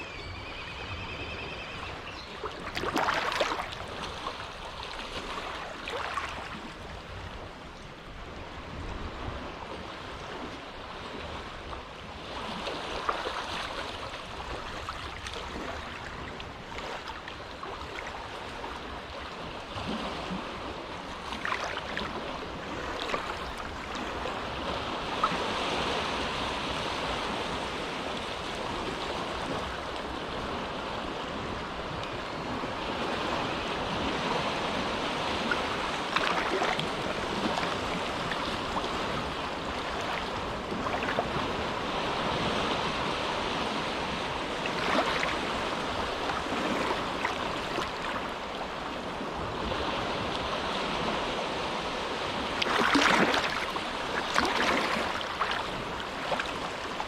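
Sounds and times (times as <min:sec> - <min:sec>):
small waves lapping at shore: 0:00.0 - 0:57.0.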